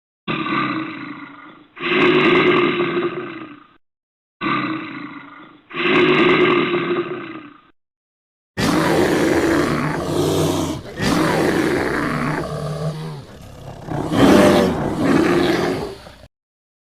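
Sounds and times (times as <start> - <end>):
bear roaring: 0.3 - 3.8, 4.4 - 7.7, 8.6 - 16.3.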